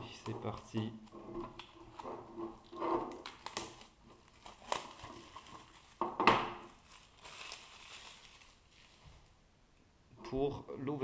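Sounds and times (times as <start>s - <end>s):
plastic shrink wrap crinkling: 0.0s - 9.4s.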